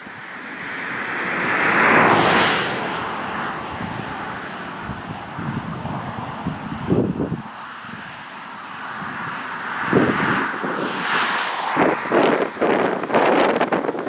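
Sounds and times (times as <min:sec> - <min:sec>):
vehicle passing by: 0:00.4 - 0:13.6.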